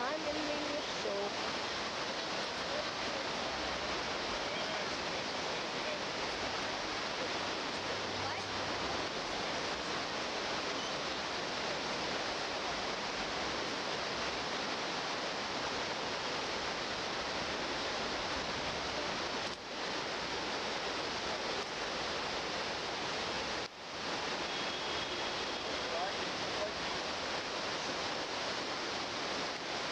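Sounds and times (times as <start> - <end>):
steady rushing noise: 0.0 - 29.9.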